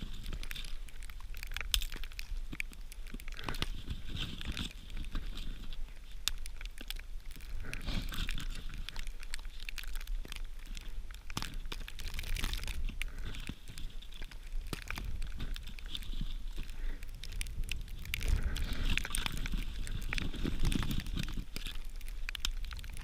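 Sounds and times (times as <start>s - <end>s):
bark crinkling and tearing: 0.0s - 23.0s
small sticks snapping: 0.0s - 23.0s.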